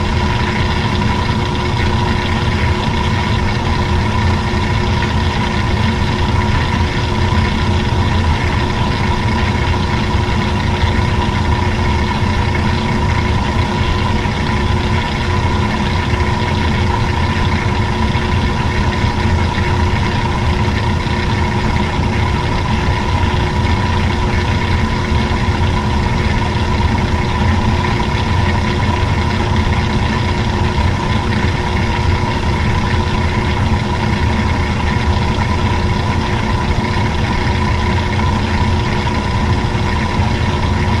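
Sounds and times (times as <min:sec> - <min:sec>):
washing machine motor humming: 0:00.0 - 0:41.0.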